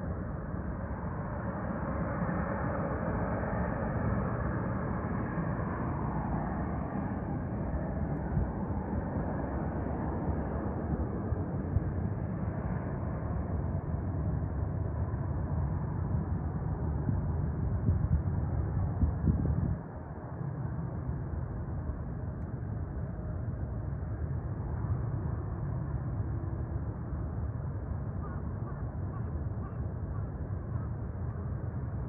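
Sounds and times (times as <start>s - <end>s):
distant airplane engines rumbling: 0.0s - 32.0s.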